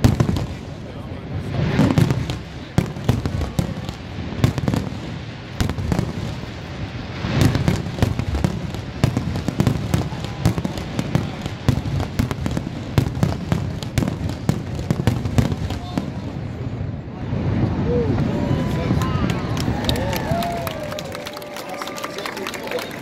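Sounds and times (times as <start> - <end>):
fireworks bursting: 0.0 - 21.3.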